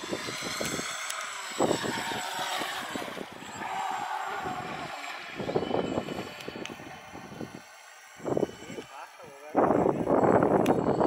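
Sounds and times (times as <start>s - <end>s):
small boat motor whining: 0.0s - 11.0s.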